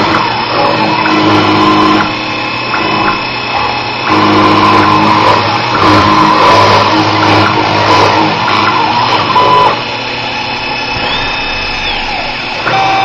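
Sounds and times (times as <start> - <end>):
milling spindle running: 0.0 - 13.0
stepper motors humming: 0.0 - 13.0.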